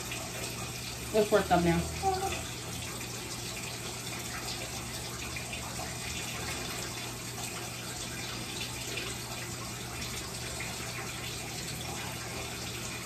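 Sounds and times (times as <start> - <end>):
water running from a bathtub tap: 0.0 - 13.0.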